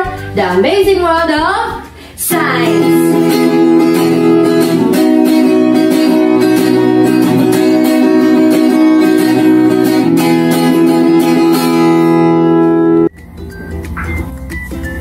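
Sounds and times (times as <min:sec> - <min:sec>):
guitar chords strummed: 0:02.3 - 0:14.8.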